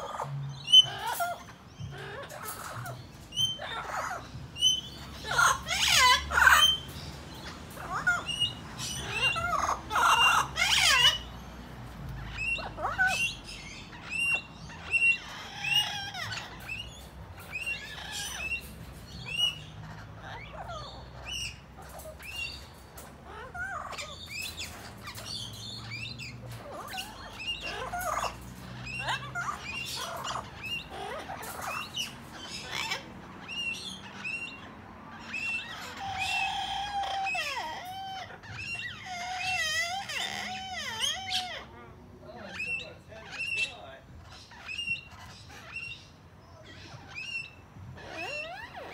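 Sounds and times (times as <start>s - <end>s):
parrot chirps: 0.0s - 41.8s, 42.5s - 48.9s
parrot squawks: 0.0s - 48.9s.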